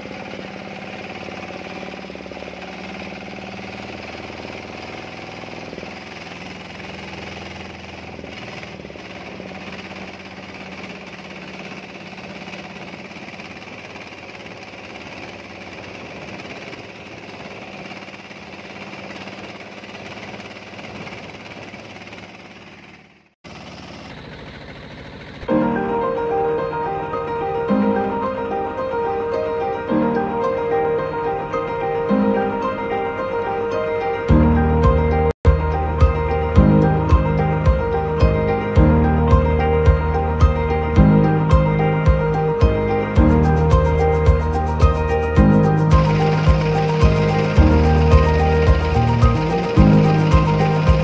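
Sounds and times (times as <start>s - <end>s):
boat diesel engine running: 0.0s - 51.0s.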